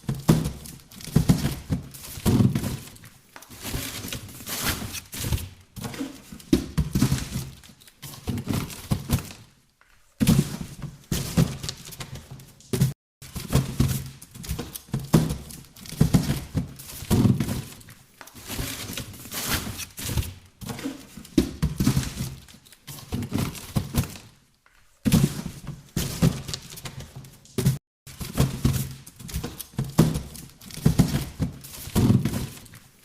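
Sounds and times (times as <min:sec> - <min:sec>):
cardboard boxes thunking: 0:00.0 - 0:09.5, 0:10.2 - 0:24.4, 0:25.0 - 0:32.8.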